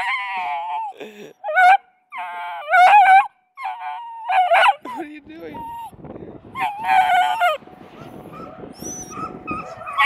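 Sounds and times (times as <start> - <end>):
puppy baying and yelping: 0.0 - 5.0, 6.6 - 10.0.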